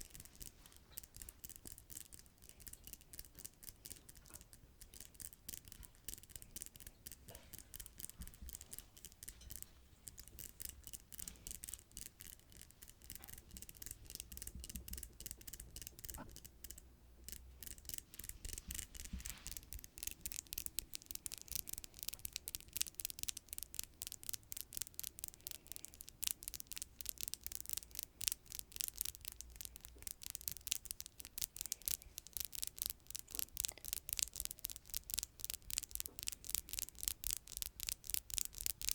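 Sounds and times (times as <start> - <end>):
fingernails tapping and scratching: 0.0 - 38.9.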